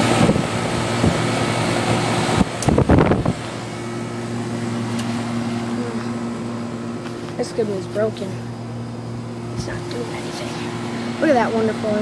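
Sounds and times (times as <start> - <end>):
air conditioner humming: 0.0 - 12.0
fan airy rush: 0.0 - 12.0.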